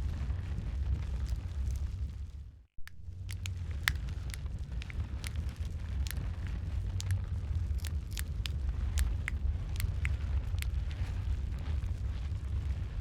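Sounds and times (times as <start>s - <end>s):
low rumble of burning: 0.0s - 13.0s
wood fire crackling: 0.0s - 13.0s.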